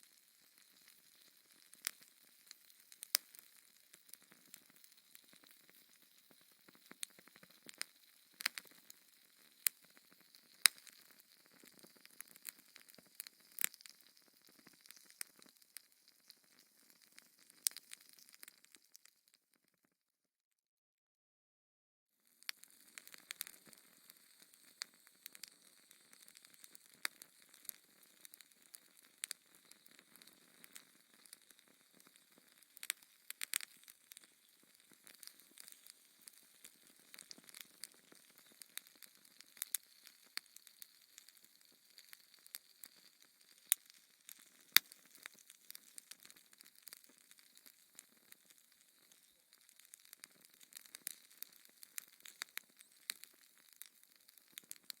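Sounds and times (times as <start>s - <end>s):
fireplace fire crackling: 0.0s - 19.1s, 22.3s - 55.0s.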